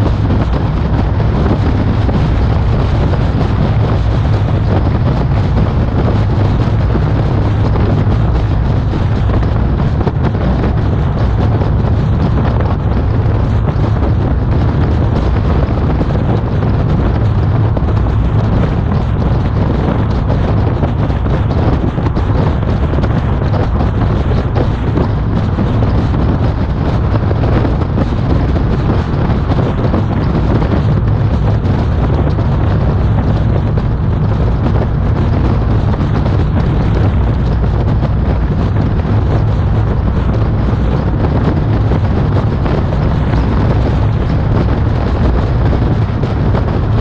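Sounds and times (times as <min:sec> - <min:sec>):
road and engine noise: 0:00.0 - 0:47.0
wind buffeting microphone: 0:00.0 - 0:47.0.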